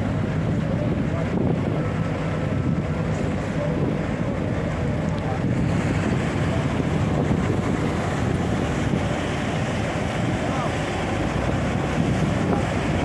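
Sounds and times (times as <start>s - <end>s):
excavator running: 0.0s - 13.0s
piling rig running: 0.0s - 13.0s
wind buffeting microphone: 0.0s - 13.0s.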